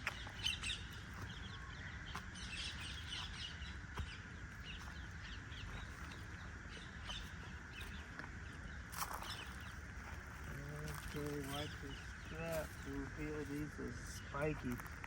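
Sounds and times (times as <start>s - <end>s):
steady high drone: 0.0s - 15.0s
wild birds chirping: 0.0s - 15.0s.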